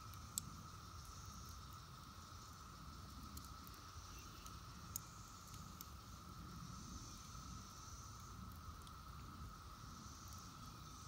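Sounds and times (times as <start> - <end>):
campfire embers crackling: 0.0 - 11.0
distant cicadas droning: 0.0 - 11.0.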